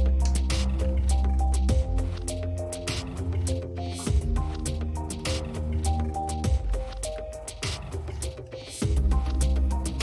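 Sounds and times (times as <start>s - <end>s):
background music with held notes: 0.0s - 10.0s
ticking percussion beat: 0.0s - 10.0s.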